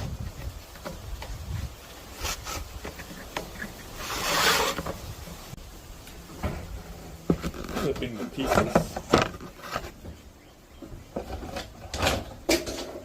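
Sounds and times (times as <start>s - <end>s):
wood rubbing: 0.0s - 13.0s.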